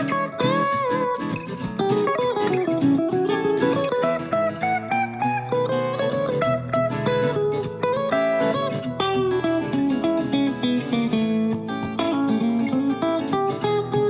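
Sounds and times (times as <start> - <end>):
plucked guitar music: 0.0 - 14.0.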